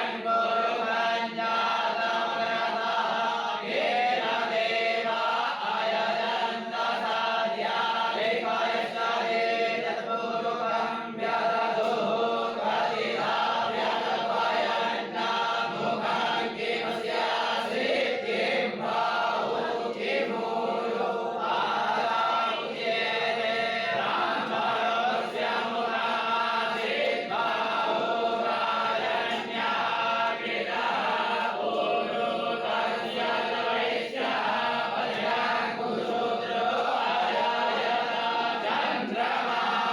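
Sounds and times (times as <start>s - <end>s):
group of voices chanting: 0.0s - 39.9s.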